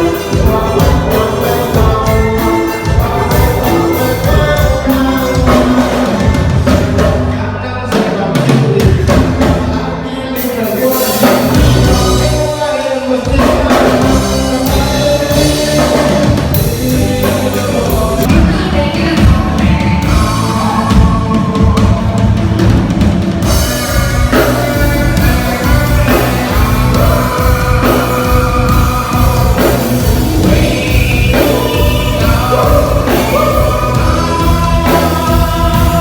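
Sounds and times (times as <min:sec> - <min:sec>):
band playing a song: 0:00.0 - 0:36.0
drum kit: 0:00.0 - 0:36.0
person singing: 0:00.0 - 0:36.0.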